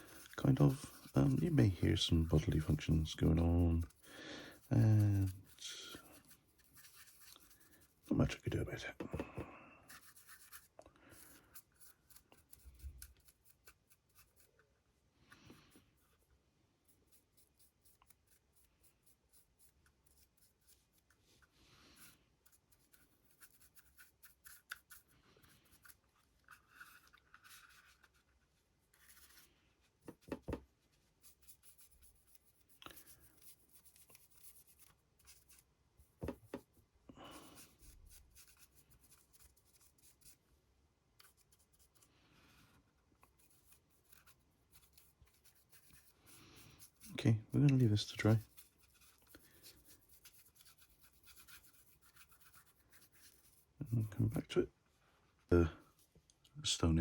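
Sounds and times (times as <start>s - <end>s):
paintbrush scratching: 0.0s - 8.9s, 9.8s - 14.6s, 15.5s - 36.7s, 37.3s - 40.4s, 41.2s - 42.1s, 43.2s - 54.6s.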